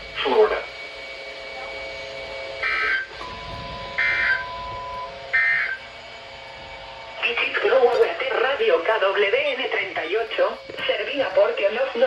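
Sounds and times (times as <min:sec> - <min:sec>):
faint steady tones: 0:00.0 - 0:12.0.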